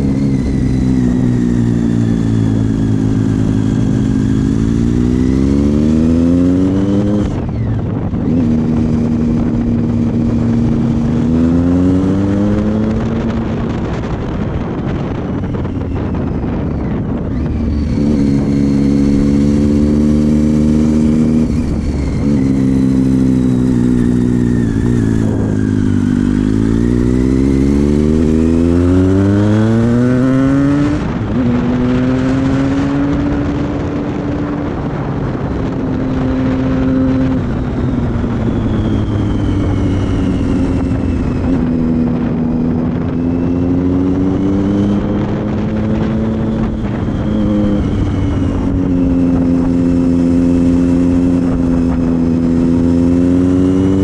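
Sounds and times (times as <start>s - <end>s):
motorcycle engine revving: 0.0s - 54.0s
wind rushing over microphone: 0.0s - 54.0s.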